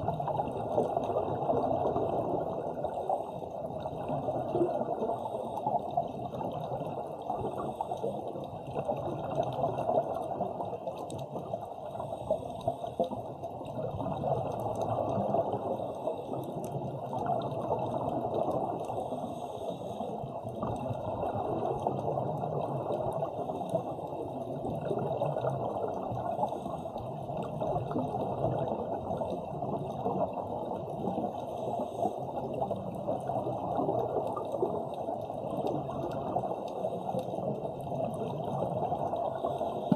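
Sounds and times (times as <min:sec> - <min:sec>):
muffled underwater noise: 0:00.0 - 0:39.9.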